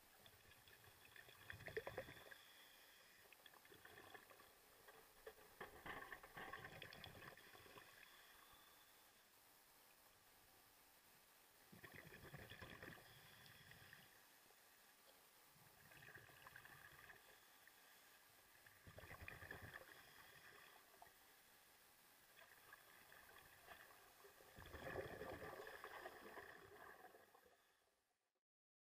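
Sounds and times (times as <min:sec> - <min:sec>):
faint underwater bubbling: 0:00.0 - 0:28.0.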